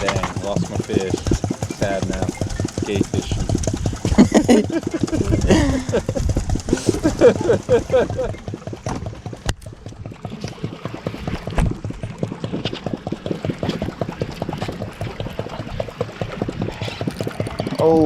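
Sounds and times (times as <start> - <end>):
water splashing and gurgling: 0.0 - 18.0.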